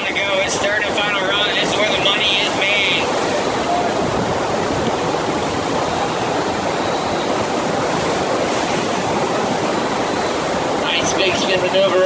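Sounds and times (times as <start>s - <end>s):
water rushing from wave machine: 0.0s - 12.0s.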